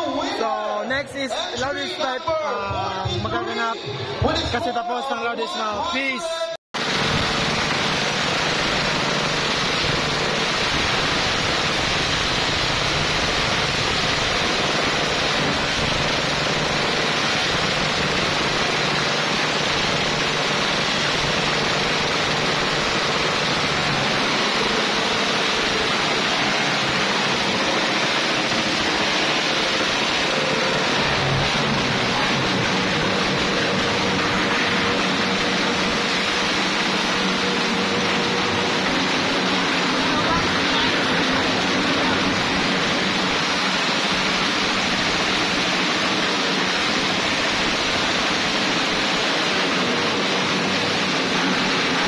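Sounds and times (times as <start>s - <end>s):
motorcycle engine roaring: 6.8s - 52.0s.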